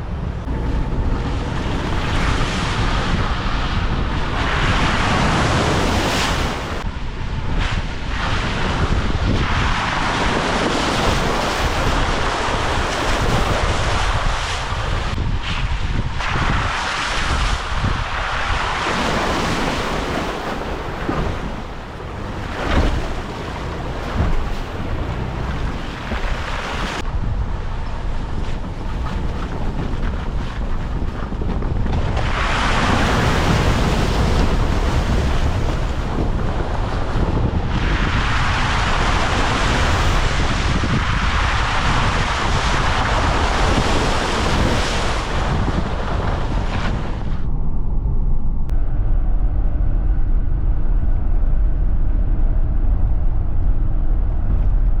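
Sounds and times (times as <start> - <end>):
loud rushing noise: 0.0 - 54.8
engine and tyre rumble: 0.0 - 55.0.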